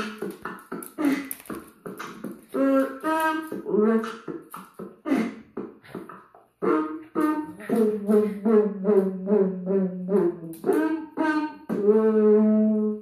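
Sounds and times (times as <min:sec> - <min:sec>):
beatboxing into a microphone: 0:00.0 - 0:13.0.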